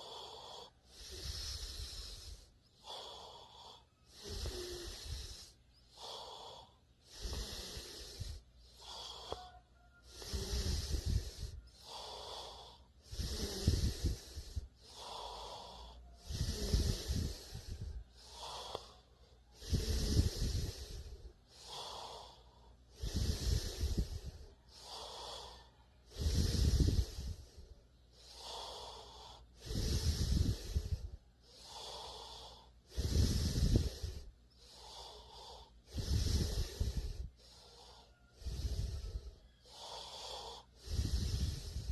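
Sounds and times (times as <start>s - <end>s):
person snoring: 0.0s - 41.9s.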